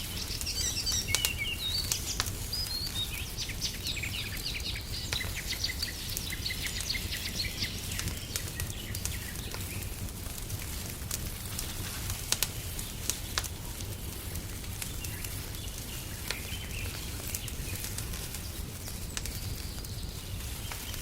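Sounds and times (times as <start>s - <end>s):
small birds chirping: 0.0s - 10.8s, 11.7s - 21.0s
wood fire crackling: 0.0s - 21.0s.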